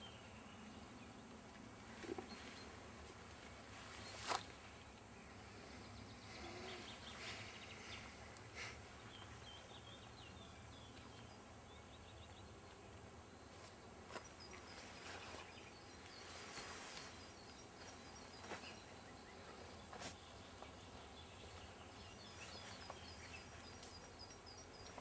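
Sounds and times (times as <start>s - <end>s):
faint bird chirps: 3.8s - 25.0s.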